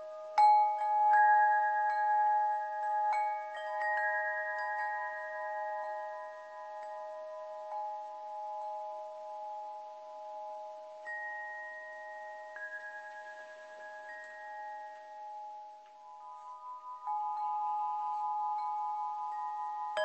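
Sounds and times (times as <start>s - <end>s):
chimes ringing: 0.2s - 20.0s.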